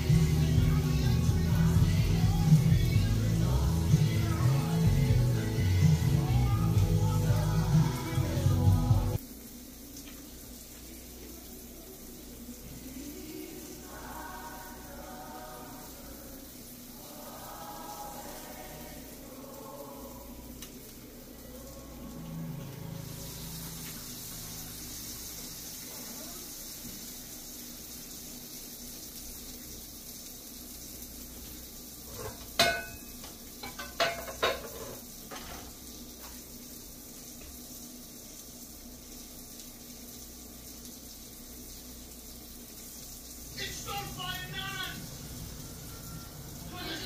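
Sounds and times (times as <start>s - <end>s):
food sizzling on a grill: 0.0s - 47.0s.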